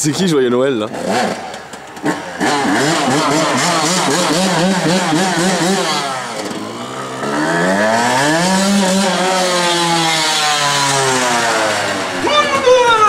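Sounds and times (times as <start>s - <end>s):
motocross bike engine revving: 0.7s - 13.0s.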